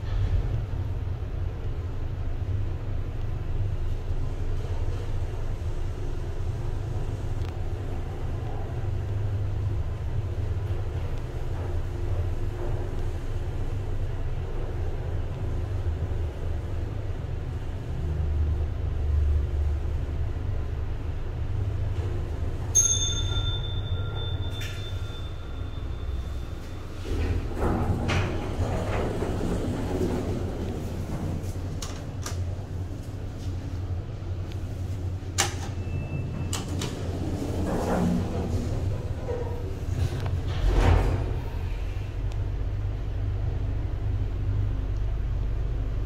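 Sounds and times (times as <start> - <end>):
lift car rumbling in shaft: 0.0 - 46.0
low machinery hum: 0.0 - 46.0.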